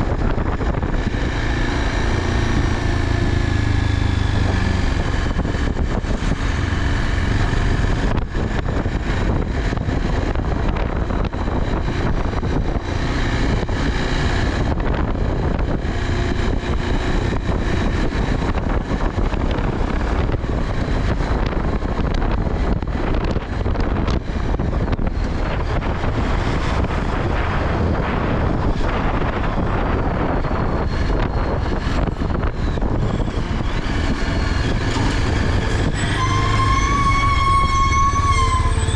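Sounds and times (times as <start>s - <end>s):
vehicle and road noise: 0.0s - 38.9s
wind buffeting microphone: 0.0s - 38.9s.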